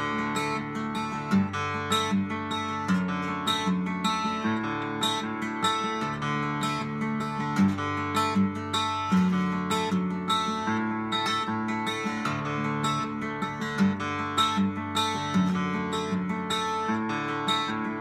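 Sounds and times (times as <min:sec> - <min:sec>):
fingerstyle acoustic guitar: 0:00.0 - 0:18.0.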